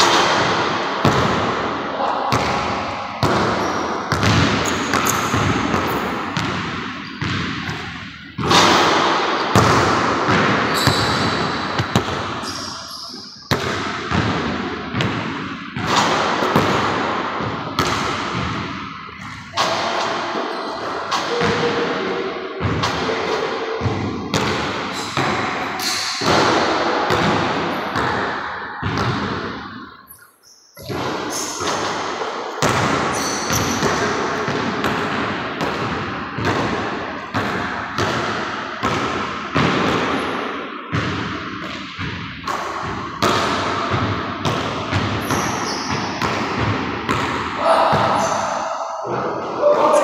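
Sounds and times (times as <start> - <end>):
basketball bouncing on wooden floor: 2.3 - 20.1, 23.8 - 29.6, 30.8 - 40.3, 40.9 - 48.4.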